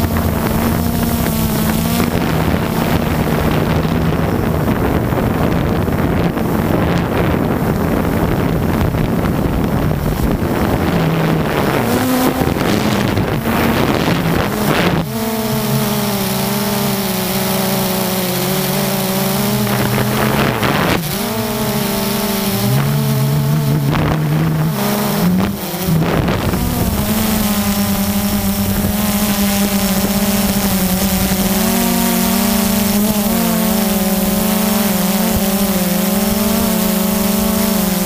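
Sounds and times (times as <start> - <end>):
drone propellers buzzing: 0.0 - 38.0.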